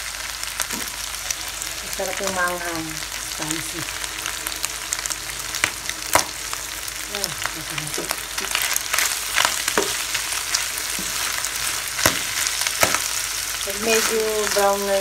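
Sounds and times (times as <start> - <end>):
meat sizzling in a frying pan: 0.0 - 15.0.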